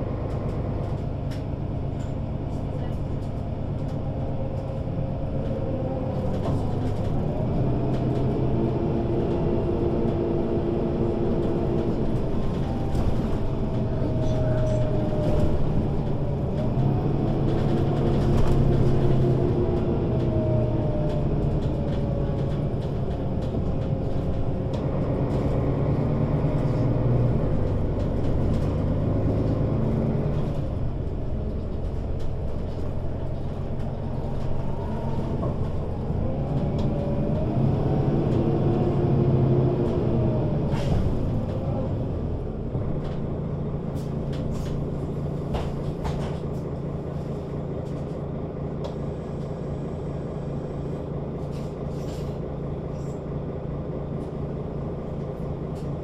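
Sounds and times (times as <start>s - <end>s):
bus diesel engine under load: 0.0s - 56.0s.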